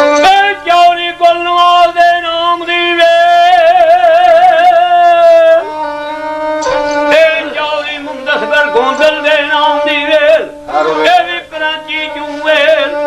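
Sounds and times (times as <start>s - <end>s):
bowed sarangi: 0.0s - 13.0s
man singing long notes: 0.0s - 13.0s.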